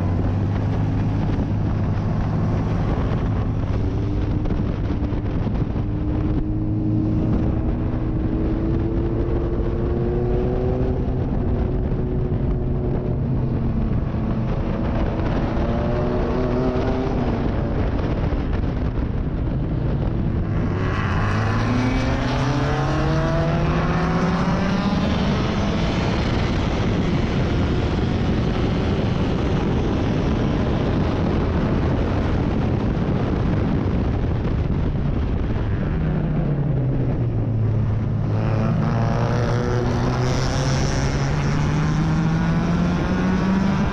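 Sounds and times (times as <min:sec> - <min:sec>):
sports car engine at full throttle: 0:00.0 - 0:43.9.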